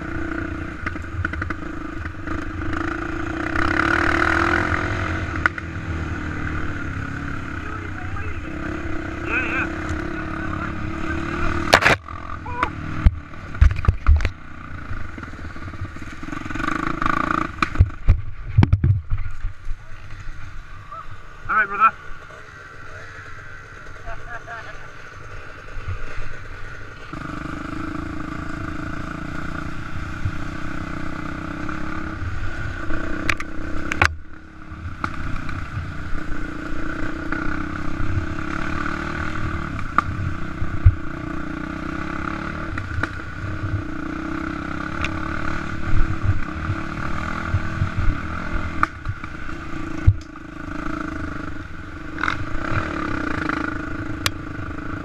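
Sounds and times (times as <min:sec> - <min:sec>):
quad bike engine revving: 0:00.0 - 0:18.1, 0:21.5 - 0:55.0.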